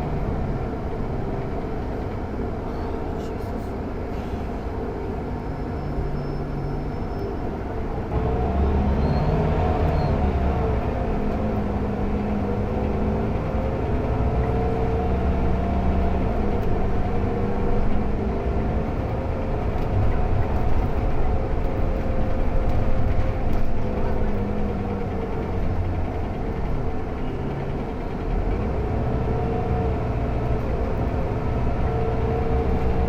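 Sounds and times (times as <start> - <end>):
bus engine and gearbox droning: 0.0 - 33.0.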